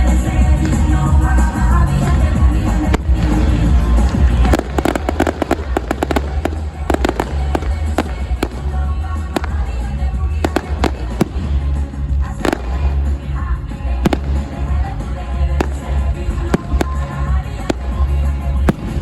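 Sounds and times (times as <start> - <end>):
fireworks bangs and crackles: 0.0 - 19.0
loud music with heavy bass: 0.1 - 19.0.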